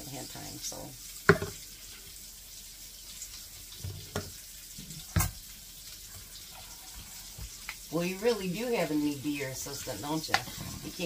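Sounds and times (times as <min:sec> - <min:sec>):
patties sizzling in a frying pan: 0:00.0 - 0:11.0.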